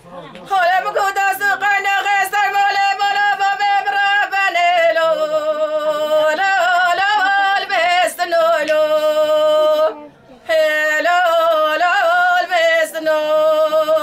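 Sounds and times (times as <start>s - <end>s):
woman singing unaccompanied: 0.5s - 14.0s.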